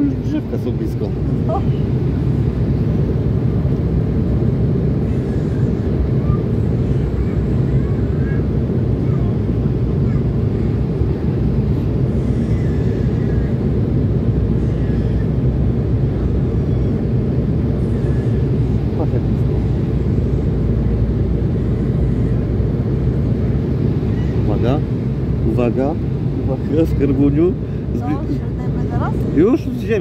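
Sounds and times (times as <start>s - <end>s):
jet airliner cabin rumble: 0.0s - 30.0s.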